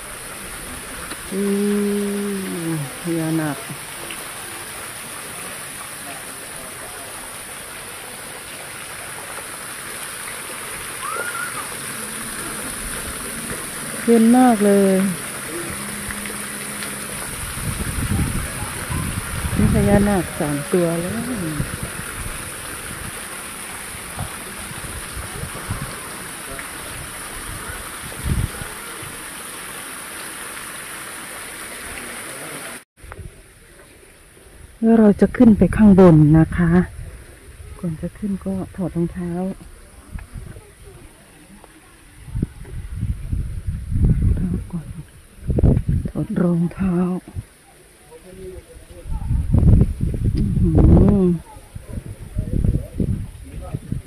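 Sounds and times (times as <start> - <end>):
water spraying and splashing: 0.0 - 34.8, 36.5 - 54.0.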